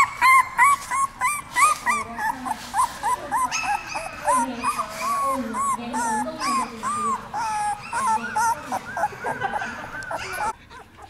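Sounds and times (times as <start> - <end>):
puppies whimpering and squealing: 0.0 - 11.0.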